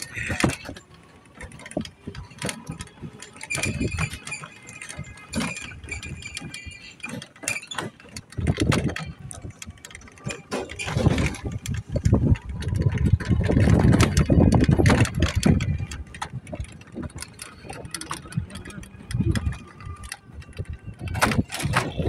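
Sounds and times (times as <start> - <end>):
motorcycle running: 0.0 - 22.0
wind buffeting microphone: 1.7 - 6.6, 8.1 - 22.0.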